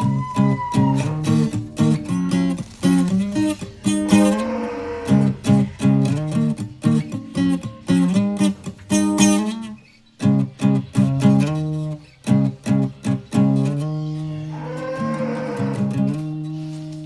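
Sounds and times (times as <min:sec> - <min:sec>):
guitar strumming chords: 0:00.0 - 0:17.0.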